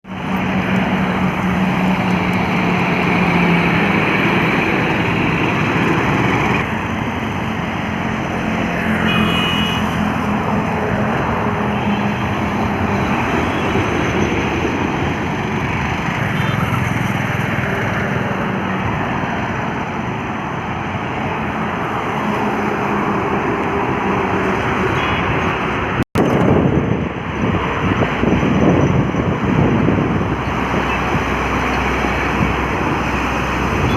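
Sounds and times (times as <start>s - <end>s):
tyre and traffic noise: 0.0s - 33.9s
trucks driving past: 0.1s - 33.9s.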